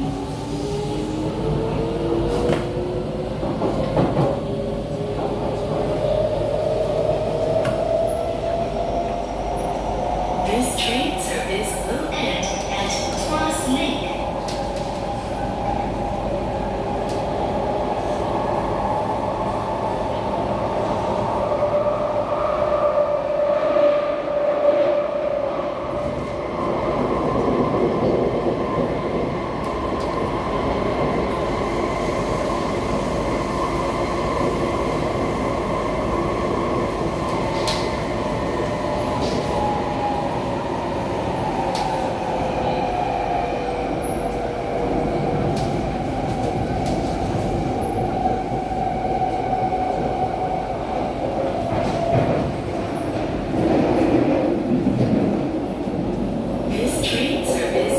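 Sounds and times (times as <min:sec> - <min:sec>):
train wheel and rail rumble: 0:00.0 - 0:57.9.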